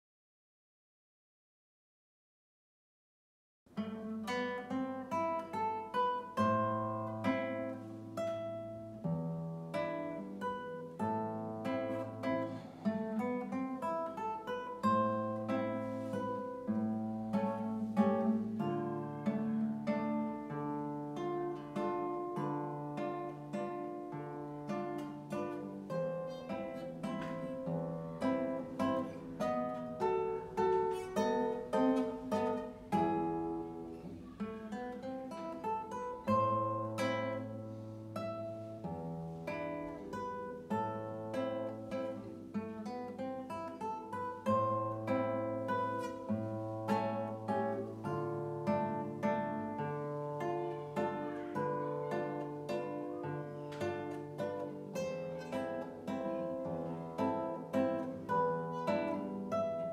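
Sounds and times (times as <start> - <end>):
fingerstyle classical guitar: 3.7 - 59.9.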